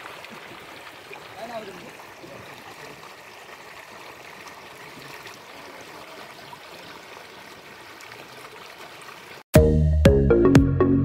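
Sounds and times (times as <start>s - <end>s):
stream flowing over rocks: 0.0s - 9.5s.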